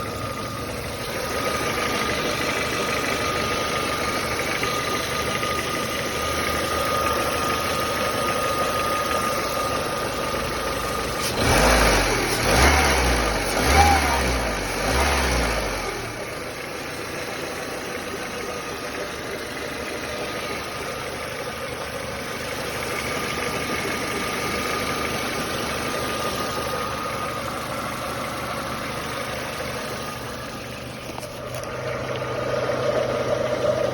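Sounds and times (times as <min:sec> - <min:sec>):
car engine idling with knock: 0:00.0 - 0:33.9
engine revving: 0:00.0 - 0:33.9.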